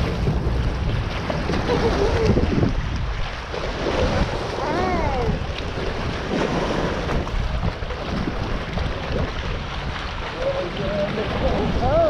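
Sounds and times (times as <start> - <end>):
water sloshing and splashing: 0.0 - 12.0
wind buffeting microphone: 0.0 - 12.0.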